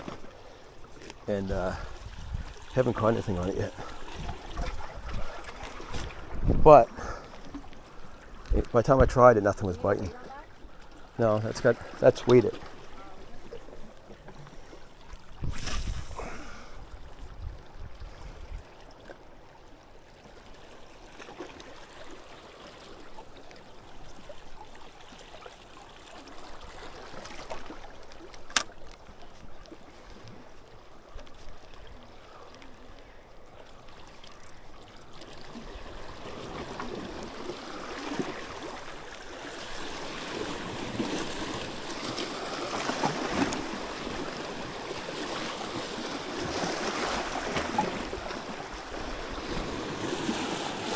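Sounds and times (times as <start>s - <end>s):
seawater lapping: 0.0s - 50.9s
wind: 0.0s - 50.9s.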